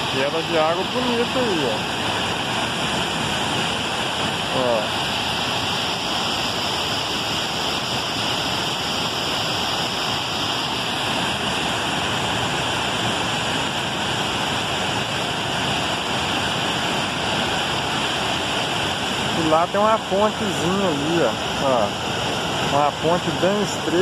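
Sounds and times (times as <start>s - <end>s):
water rushing over a weir: 0.0s - 24.0s.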